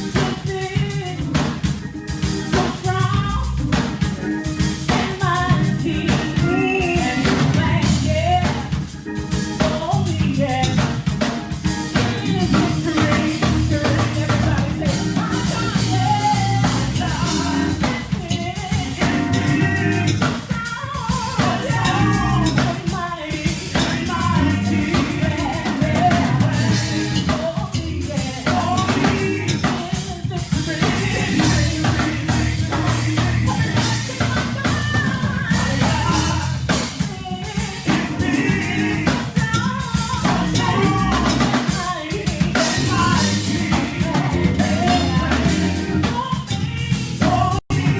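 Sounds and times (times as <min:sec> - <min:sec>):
drum kit and bass: 0:00.0 - 0:47.9
gospel singing: 0:00.0 - 0:47.9.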